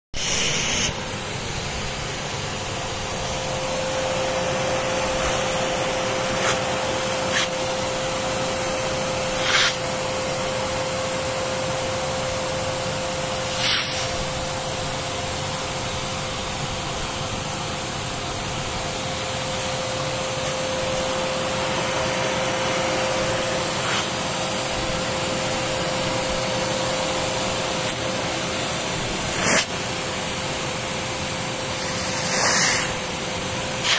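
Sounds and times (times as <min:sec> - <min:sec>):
spray extractor suction motor whining: 0:00.2 - 0:33.9.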